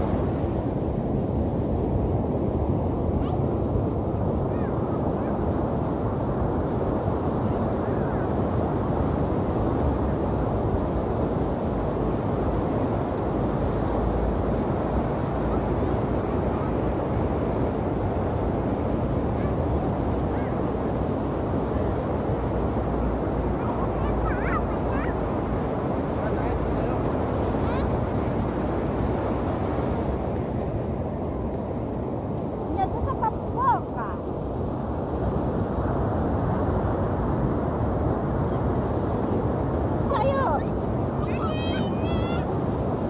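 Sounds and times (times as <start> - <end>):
surf rumble: 0.0 - 43.0
wind buffeting microphone: 0.0 - 43.0.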